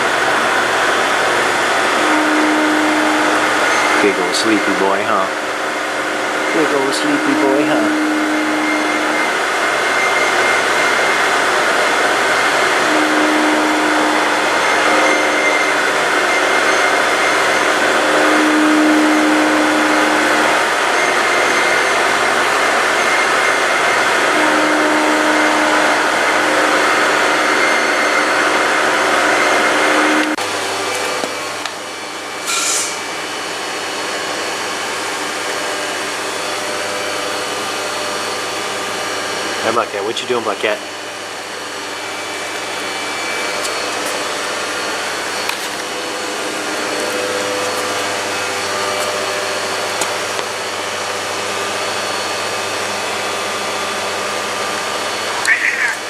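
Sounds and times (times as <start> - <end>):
loud machine whir: 0.0 - 56.0.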